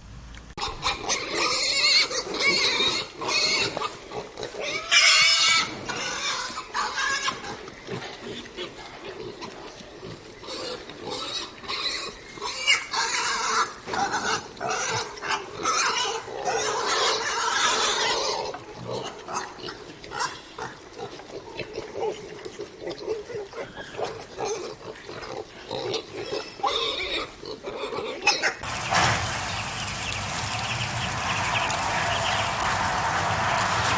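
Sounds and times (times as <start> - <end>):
pigs calling: 0.6 - 29.2.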